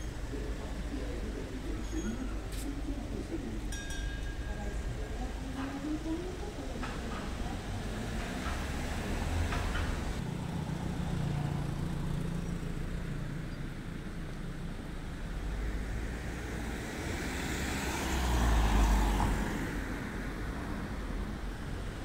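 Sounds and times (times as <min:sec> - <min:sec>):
car engine rumble passing: 0:00.0 - 0:22.0.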